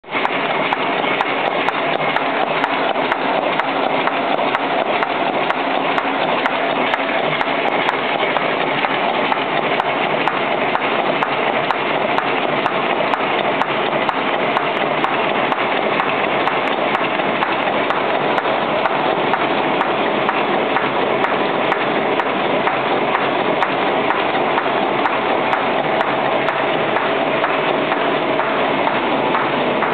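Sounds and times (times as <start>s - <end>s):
machine clattering: 0.1s - 29.9s.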